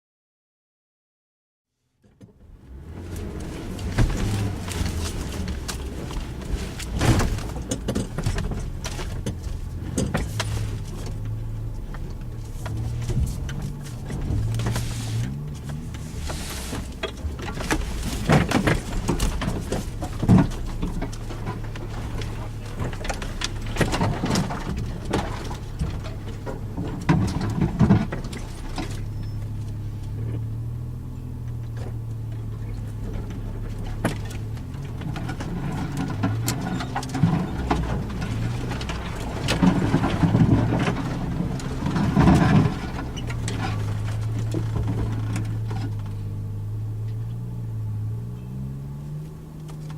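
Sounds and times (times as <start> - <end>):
car engine running at low revs: 1.7 - 49.9
vehicle knocks and clunks: 2.0 - 49.9.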